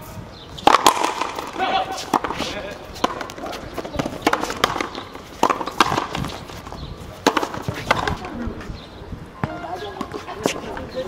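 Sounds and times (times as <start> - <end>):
ball hitting racquets and wall: 0.6 - 8.4, 9.4 - 10.8.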